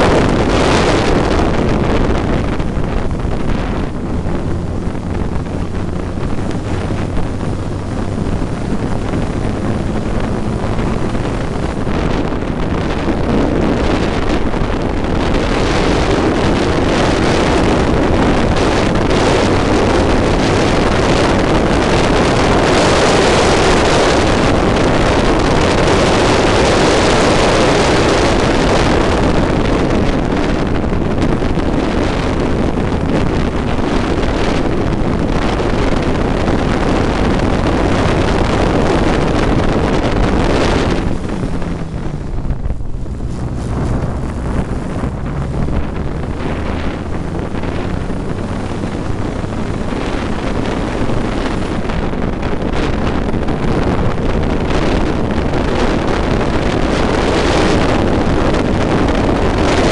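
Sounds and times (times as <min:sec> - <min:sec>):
racing engine running hard: 0:00.0 - 0:59.9
wind buffeting microphone: 0:00.0 - 0:59.9.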